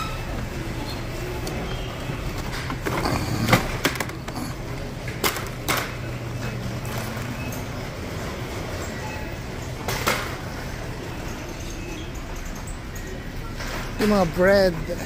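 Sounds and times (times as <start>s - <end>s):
cart wheels rumbling on tiles: 0.0s - 14.3s.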